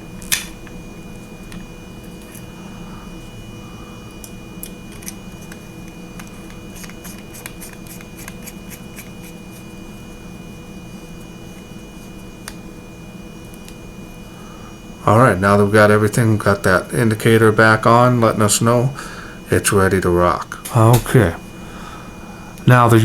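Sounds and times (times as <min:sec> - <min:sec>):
background hum: 0:00.0 - 0:23.0.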